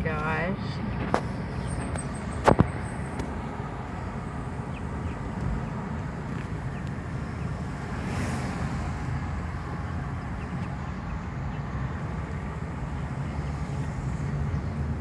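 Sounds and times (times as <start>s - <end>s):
low rumble of a ride: 0.0s - 15.0s.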